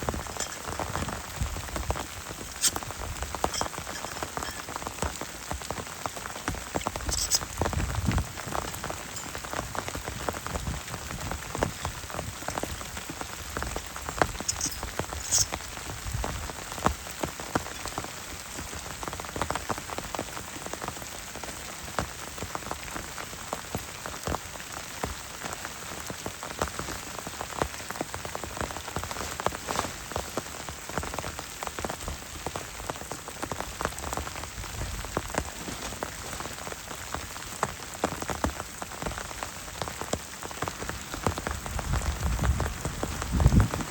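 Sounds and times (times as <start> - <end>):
heavy rain falling: 0.0 - 43.9
raindrops ticking: 0.0 - 43.9.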